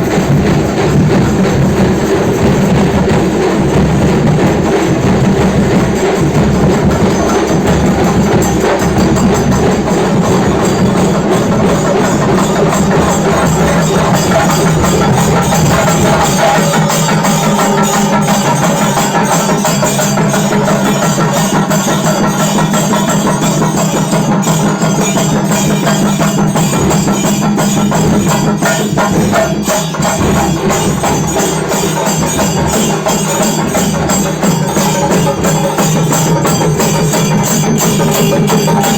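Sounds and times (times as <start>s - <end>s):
drums played fast: 0.0s - 38.9s.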